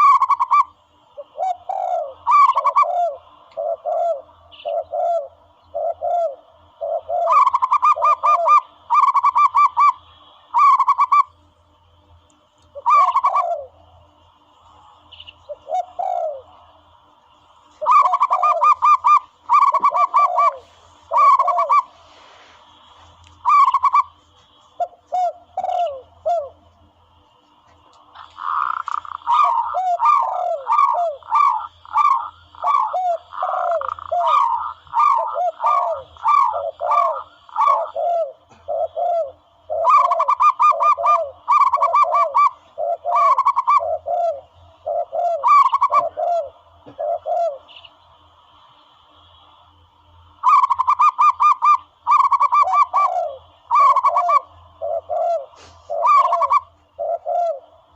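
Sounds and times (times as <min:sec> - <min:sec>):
dove cooing: 0:00.0 - 0:11.3, 0:12.7 - 0:27.2, 0:28.1 - 0:48.2, 0:50.3 - 0:57.9.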